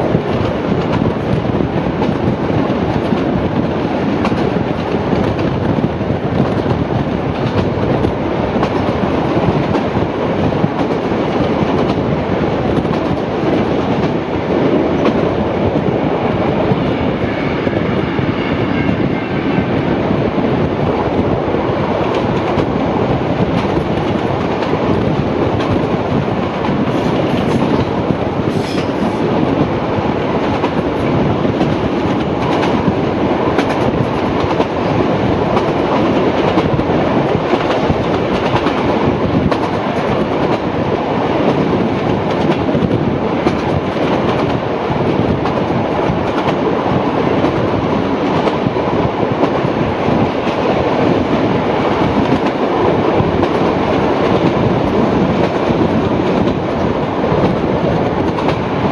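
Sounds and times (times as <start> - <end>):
rail clatter and clicks: 0.0 - 58.9
train wheels rumbling on track: 0.0 - 58.9.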